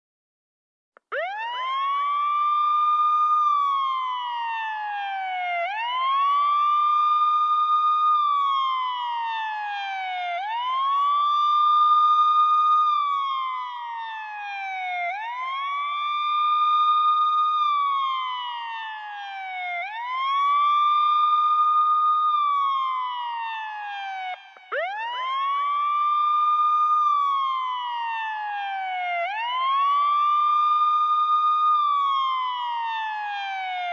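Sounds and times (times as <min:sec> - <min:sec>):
ambulance siren wailing: 0:01.0 - 0:33.9.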